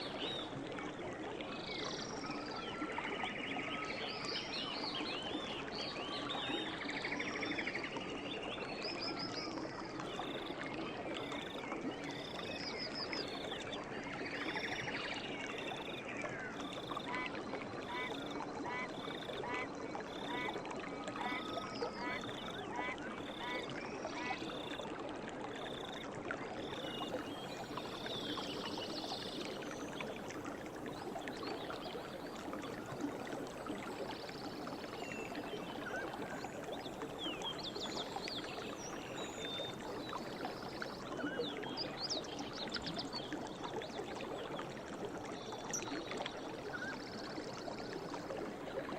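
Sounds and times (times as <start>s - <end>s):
river water flowing: 0.0s - 48.9s.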